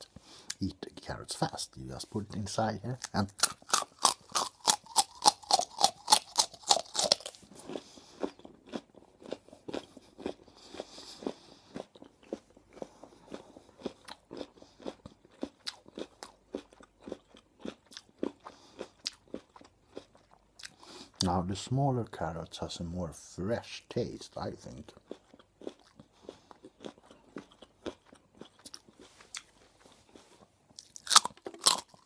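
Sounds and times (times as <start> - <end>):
chewing carrot: 0.0 - 21.4, 23.7 - 32.0
carrot crunching: 1.5 - 21.3, 24.6 - 32.0.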